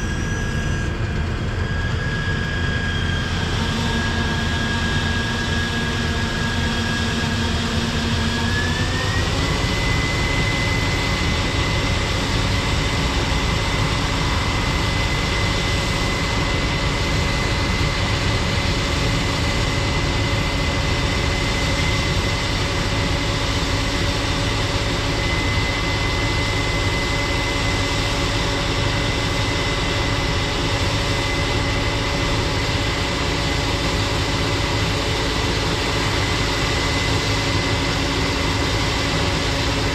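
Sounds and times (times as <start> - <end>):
heavy machine engine whining: 0.0 - 39.9.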